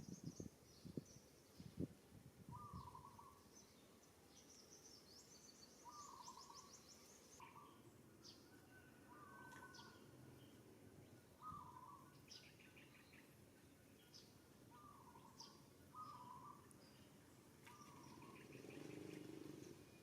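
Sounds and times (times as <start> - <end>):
faint high bird chirping: 0.0 - 1.9, 2.5 - 20.0.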